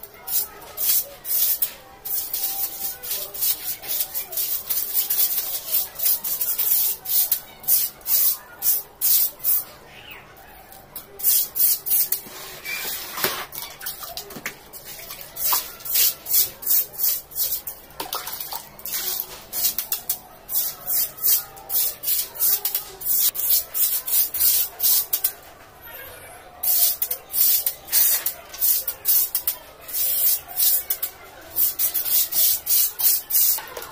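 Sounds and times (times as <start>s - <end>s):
stick broom scrubbing tiled floor: 0.2s - 9.6s, 11.2s - 25.3s, 26.7s - 33.9s.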